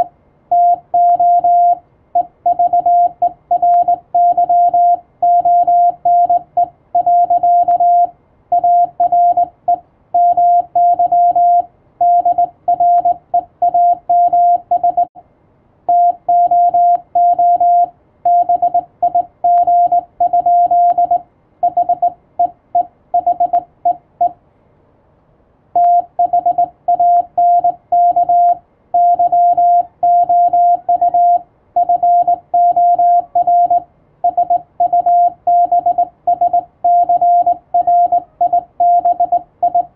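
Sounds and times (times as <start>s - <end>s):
morse code tone: 0.0s - 15.1s, 15.9s - 24.4s, 25.8s - 39.9s.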